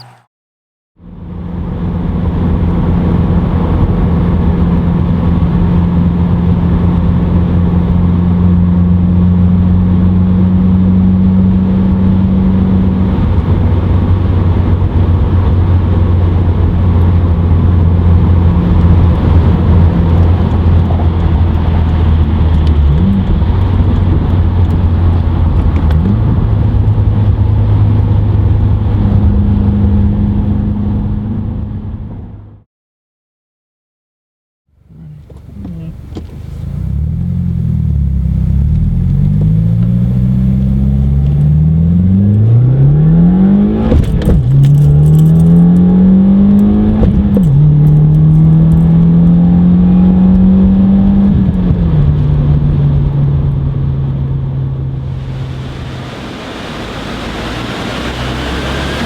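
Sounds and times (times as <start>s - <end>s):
car exhaust deep drone: 0.0s - 0.3s, 1.0s - 32.6s, 34.7s - 59.0s.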